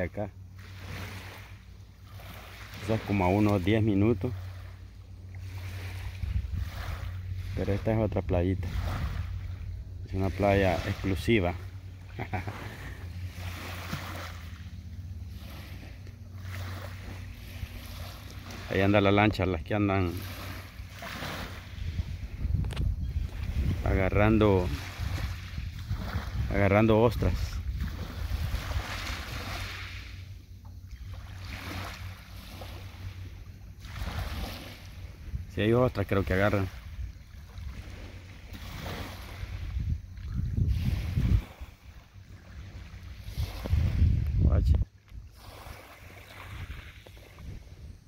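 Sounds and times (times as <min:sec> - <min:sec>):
small waves lapping on pebbles: 0:00.0 - 0:44.5, 0:45.1 - 0:48.0
steady low rumble: 0:00.1 - 0:45.6.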